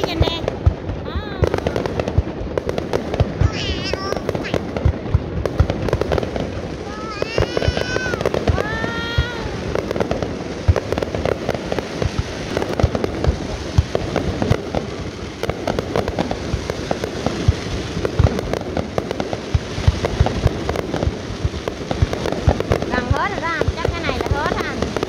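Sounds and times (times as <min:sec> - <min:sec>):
fireworks popping and banging: 0:00.0 - 0:25.0.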